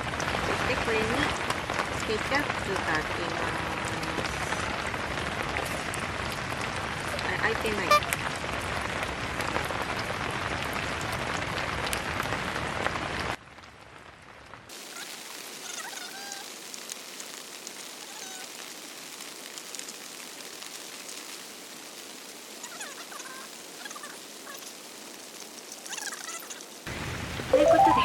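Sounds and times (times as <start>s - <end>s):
heavy rain on tent fabric: 0.0s - 28.0s
light rain: 0.0s - 28.0s.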